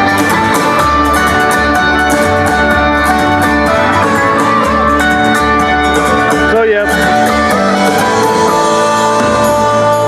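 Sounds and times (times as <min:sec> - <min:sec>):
instrumental music with bass and beat: 0:00.0 - 0:10.0.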